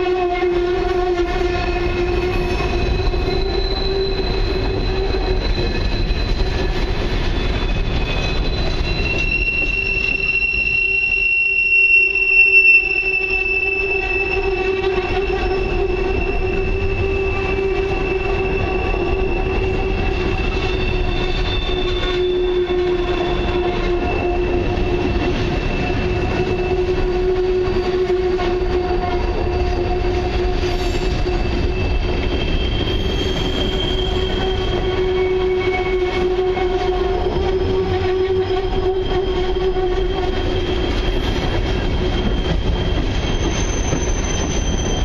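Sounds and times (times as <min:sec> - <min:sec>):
wheels squealing on rail: 0:00.0 - 0:45.0.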